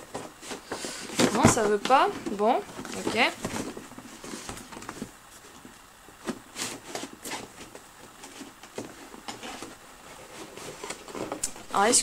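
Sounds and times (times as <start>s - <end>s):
cardboard box scraping and rustling: 0.0s - 5.6s, 6.2s - 11.9s.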